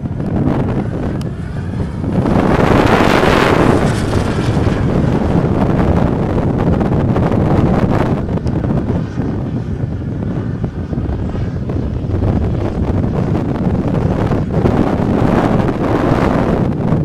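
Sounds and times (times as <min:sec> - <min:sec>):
model jet engine rushing: 0:00.0 - 0:17.0
wind buffeting microphone: 0:00.0 - 0:17.0.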